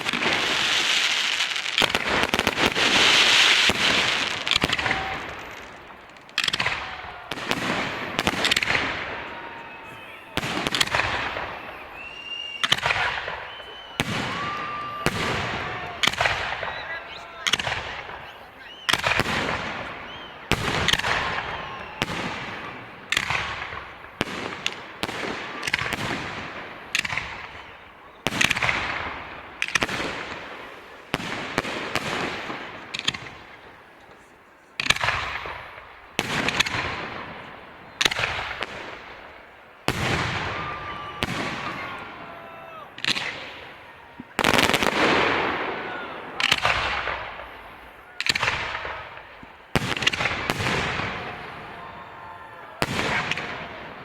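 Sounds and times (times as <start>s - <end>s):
firework shells bursting: 0.0s - 33.8s, 34.8s - 54.0s.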